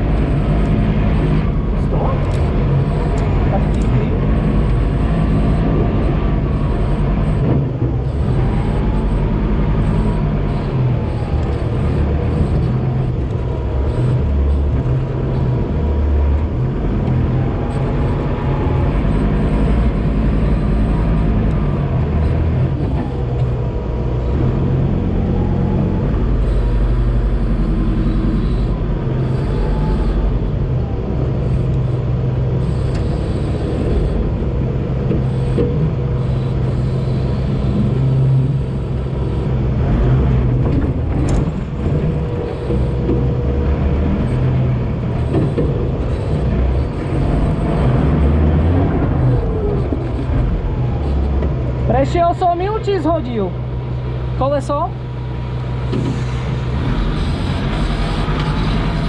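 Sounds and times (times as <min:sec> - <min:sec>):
offroad engine running under load: 0:00.0 - 0:59.0.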